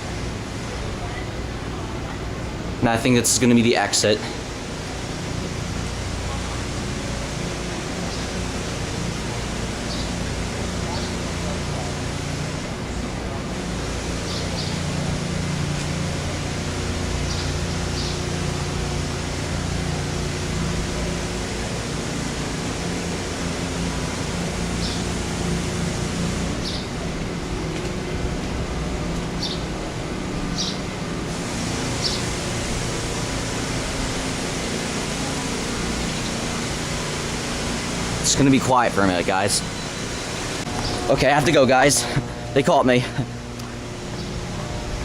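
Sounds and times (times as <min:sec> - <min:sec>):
constant low hum: 0:00.0 - 0:45.0
rushing outdoor noise: 0:00.0 - 0:45.0.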